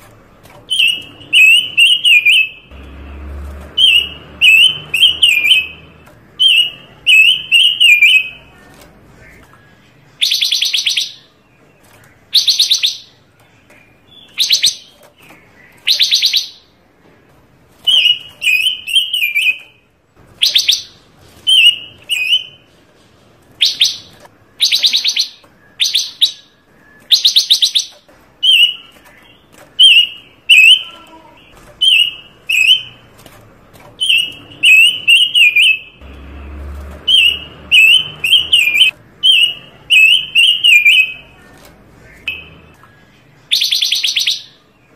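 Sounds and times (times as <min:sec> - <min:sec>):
songbird chirping notes: 0:00.1 - 0:22.8, 0:23.4 - 0:44.9.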